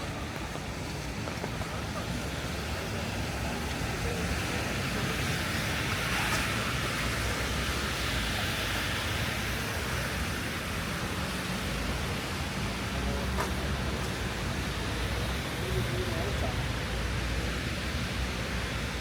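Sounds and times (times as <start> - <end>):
low traffic rumble: 0.0 - 19.0
rain hiss on wet street: 0.0 - 19.0
tyres on wet pavement: 0.0 - 19.0.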